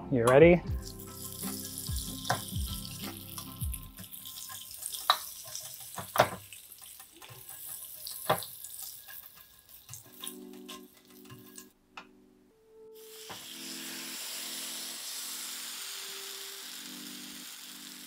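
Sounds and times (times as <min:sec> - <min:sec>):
oil sizzling in a hot pan: 0:00.8 - 0:11.7, 0:13.0 - 0:18.0.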